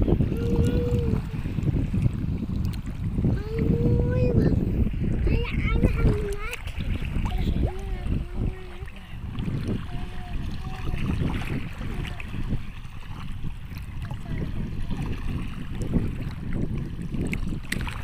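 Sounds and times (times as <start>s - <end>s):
sea water washing at shore: 0.0s - 18.0s
wind on microphone: 0.0s - 18.0s.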